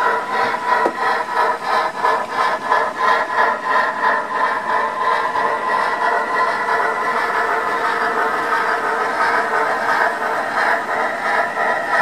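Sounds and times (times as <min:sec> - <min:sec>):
model train running noise: 0:00.0 - 0:12.0
model train steam exhaust beats: 0:00.0 - 0:12.0.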